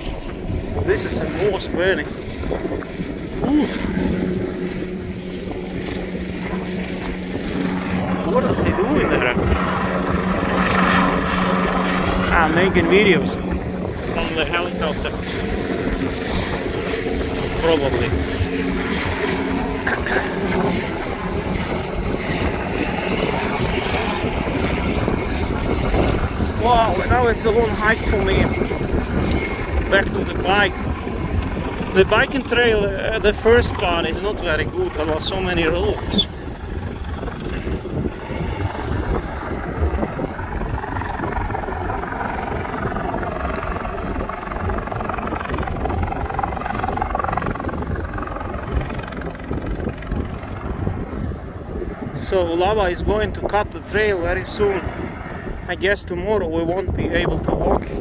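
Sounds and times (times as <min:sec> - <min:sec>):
aircraft engine drone: 0:00.0 - 0:58.0
wind rumbling on microphone: 0:00.0 - 0:58.0.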